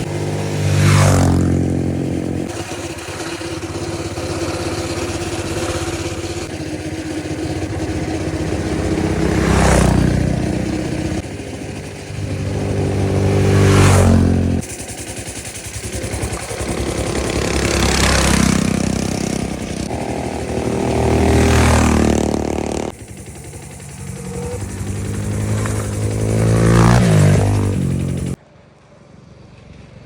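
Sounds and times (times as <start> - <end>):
mechanical clatter: 0.0 - 28.4
minibike engines revving: 0.0 - 28.4.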